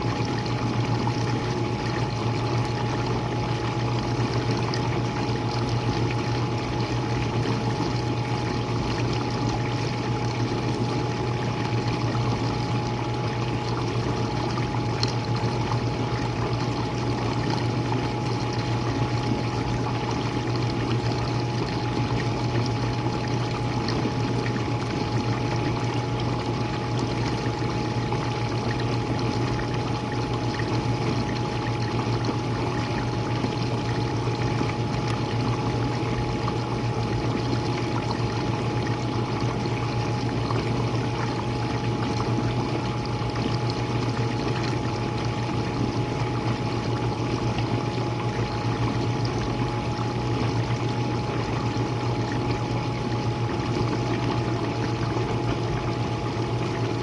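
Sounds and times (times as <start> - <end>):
pump motor hum: 0.0 - 57.0.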